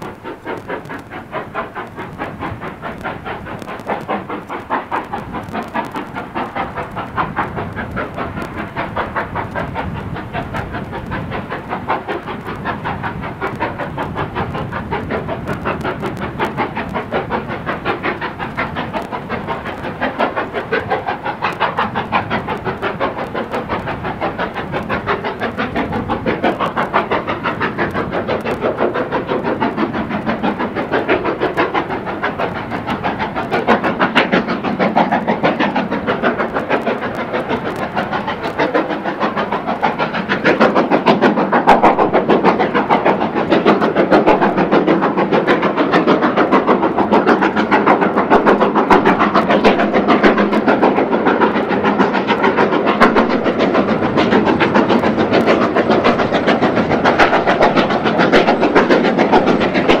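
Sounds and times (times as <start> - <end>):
steam locomotive exhaust beating: 0.0 - 60.0
train coaches clattering on rails: 0.0 - 60.0.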